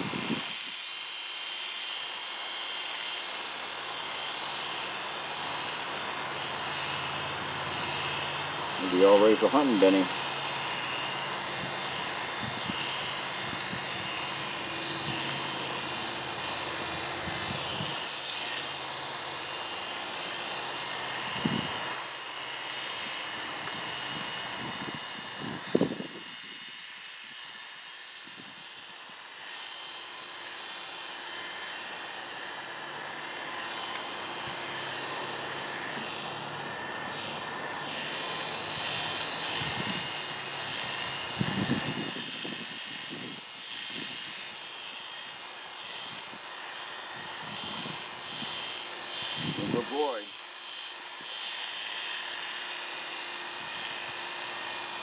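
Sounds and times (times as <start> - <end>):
electric clippers buzzing: 0.0 - 55.0.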